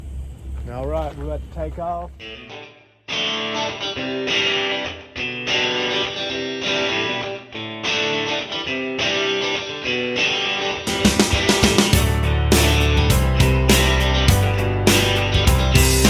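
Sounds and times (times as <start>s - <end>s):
strummed electric guitar chords: 2.2s - 16.0s.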